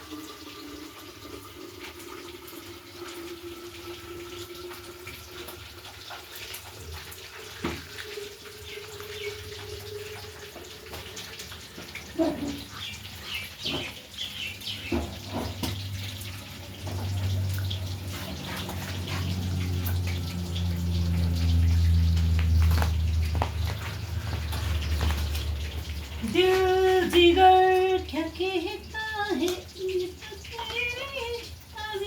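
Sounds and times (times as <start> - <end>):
water running: 0.0 - 32.0.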